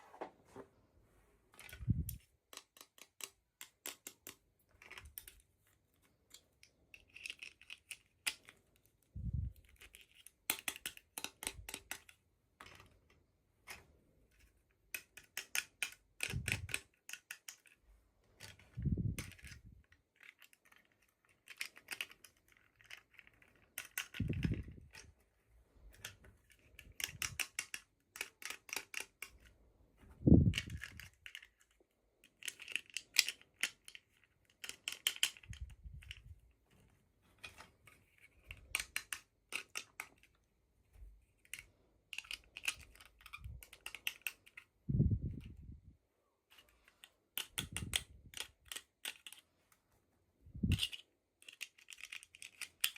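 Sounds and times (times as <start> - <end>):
plastic pieces clicking: 1.6 - 29.5, 30.2 - 36.5, 37.4 - 45.8, 46.5 - 49.5, 50.6 - 52.9.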